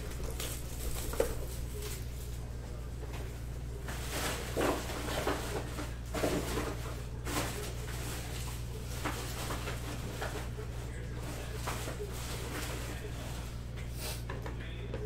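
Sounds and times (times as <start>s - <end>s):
rustling and handling noises: 0.0s - 15.0s
steady low hum: 0.0s - 15.0s.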